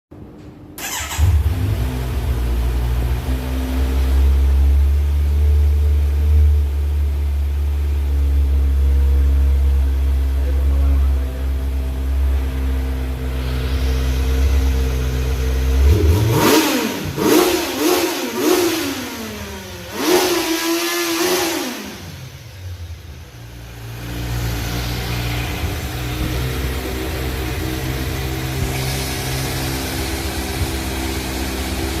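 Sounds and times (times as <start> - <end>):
motorcycle engine revving: 0.8 - 32.0.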